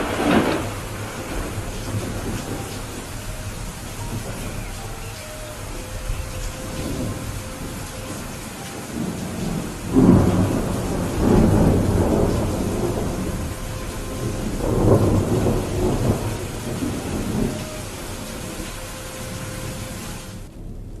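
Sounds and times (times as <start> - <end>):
steady rain: 0.0 - 21.0
thunder rumbling: 0.0 - 21.0.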